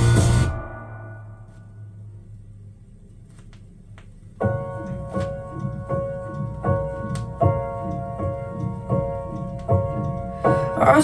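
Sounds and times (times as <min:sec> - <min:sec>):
piano chords: 0:00.0 - 0:02.2, 0:04.4 - 0:11.0.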